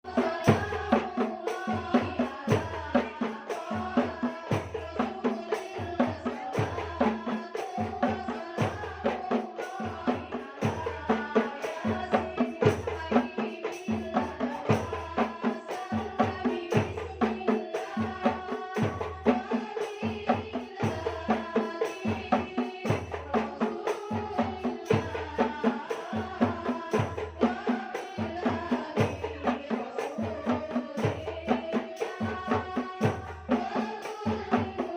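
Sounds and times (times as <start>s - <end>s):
group singing devotional song: 0.0s - 34.9s.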